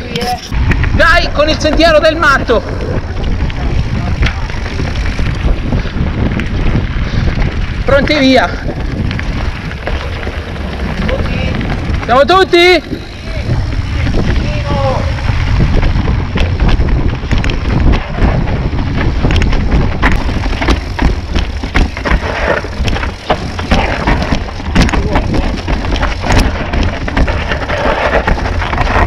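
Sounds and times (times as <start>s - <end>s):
bike rattling clicks and knocks: 0.0s - 29.0s
low rumble: 0.0s - 29.0s
wind buffeting microphone: 0.0s - 29.0s.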